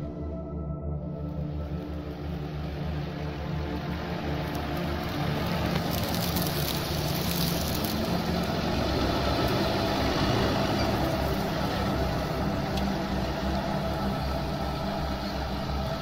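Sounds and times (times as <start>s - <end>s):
tractor diesel engine running: 2.4s - 16.0s.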